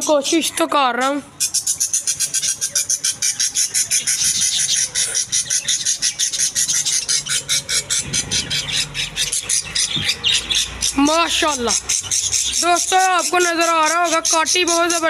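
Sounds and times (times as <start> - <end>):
bird chick squawking: 1.3 - 15.0.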